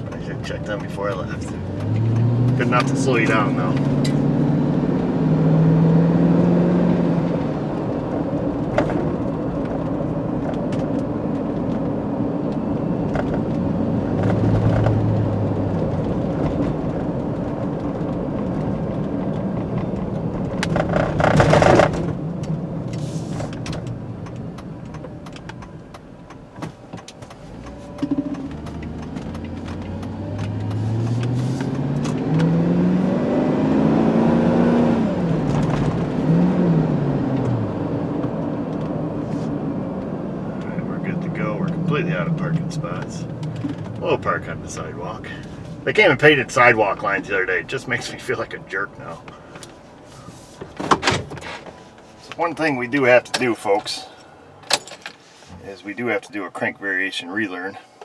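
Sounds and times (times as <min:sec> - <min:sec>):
car engine: 0:00.0 - 0:58.0
road noise: 0:00.0 - 0:58.0.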